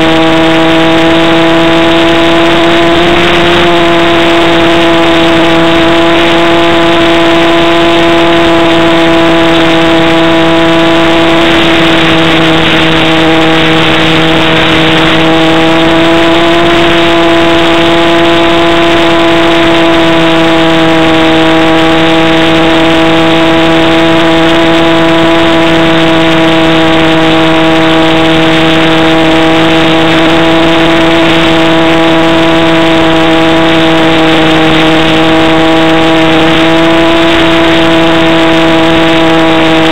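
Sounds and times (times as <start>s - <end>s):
model airplane motor drone: 0.0s - 39.9s.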